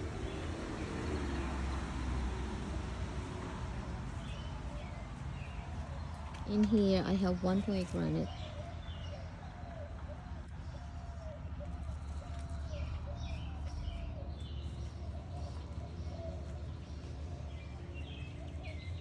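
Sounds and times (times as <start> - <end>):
doves cooing: 0.0 - 19.0
small birds chirping: 0.0 - 19.0.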